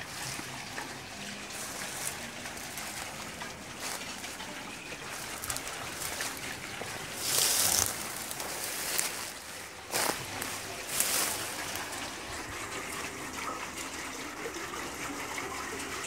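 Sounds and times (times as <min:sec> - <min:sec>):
water splashing onto water wheel: 0:00.0 - 0:16.0.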